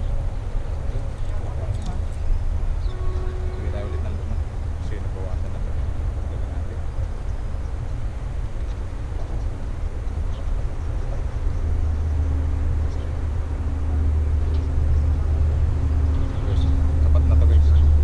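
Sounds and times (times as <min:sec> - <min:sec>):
faint hum: 0:00.0 - 0:18.0
low engine rumble: 0:00.0 - 0:18.0.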